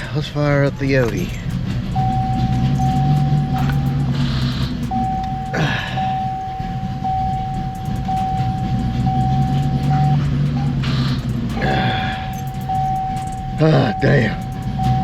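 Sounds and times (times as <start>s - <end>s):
car engine idling: 0.0s - 15.0s
high electronic warning tone: 1.9s - 15.0s.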